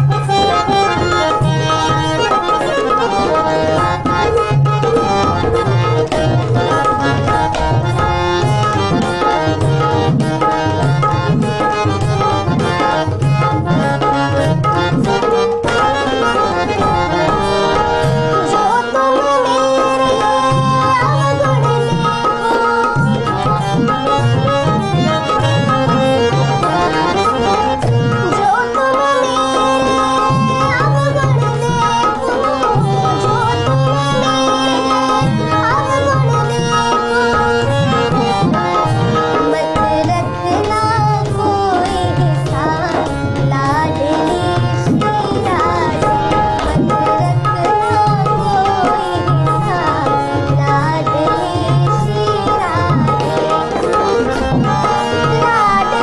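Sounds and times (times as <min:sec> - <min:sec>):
tabla rhythm: 0:00.0 - 0:56.0.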